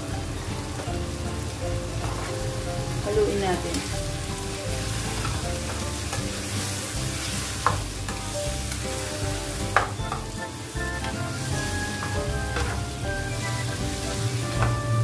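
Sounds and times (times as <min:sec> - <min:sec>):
squid sizzling in frying pan: 0:00.0 - 0:15.0.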